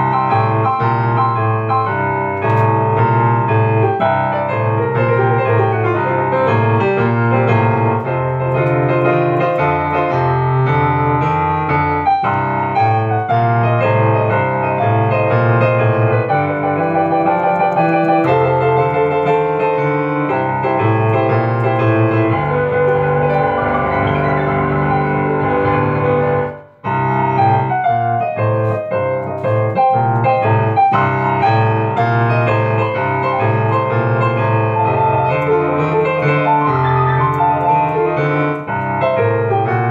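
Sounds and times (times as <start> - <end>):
upright piano playing: 0.0 - 39.9.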